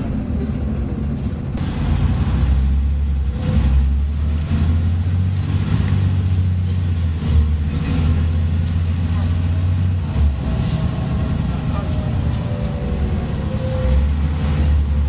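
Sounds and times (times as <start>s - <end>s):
bus diesel engine pulling hard: 0.0s - 15.0s.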